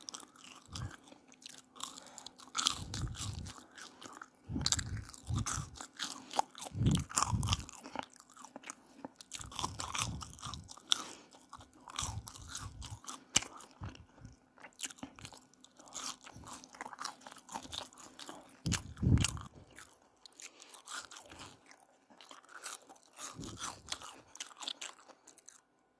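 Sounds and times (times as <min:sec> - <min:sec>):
crunching and chewing fries: 0:00.0 - 0:25.9.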